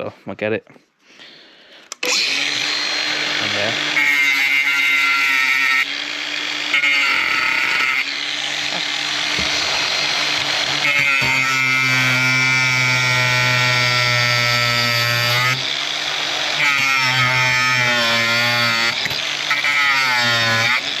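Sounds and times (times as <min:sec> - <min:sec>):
angle grinder grinding steel: 0:01.9 - 0:21.0.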